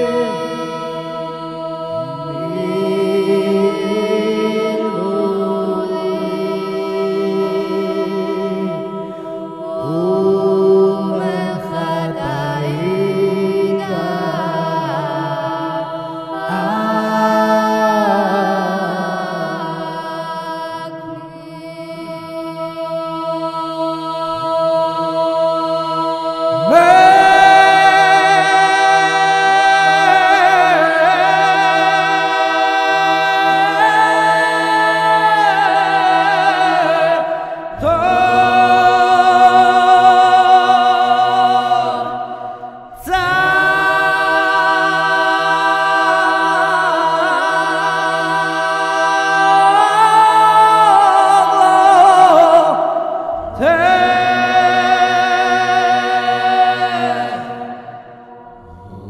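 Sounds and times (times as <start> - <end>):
unaccompanied chant: 0.0 - 59.0.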